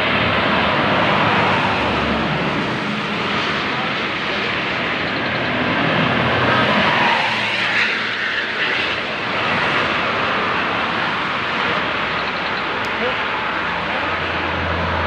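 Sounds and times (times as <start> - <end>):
bus passing: 0.0 - 15.0
traffic passing close by: 0.0 - 15.0.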